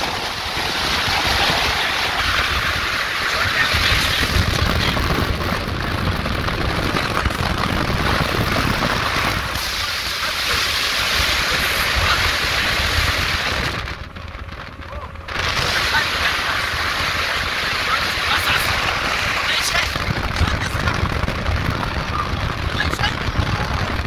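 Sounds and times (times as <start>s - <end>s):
vehicle road rumble: 0.0s - 24.0s
wind rushing over microphone: 0.0s - 24.0s.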